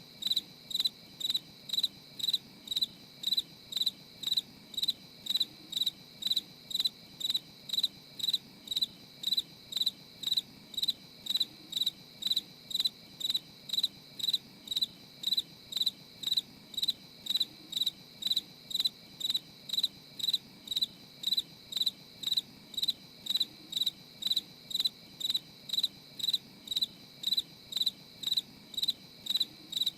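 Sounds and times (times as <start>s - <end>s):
cricket chirping: 0.0s - 29.9s.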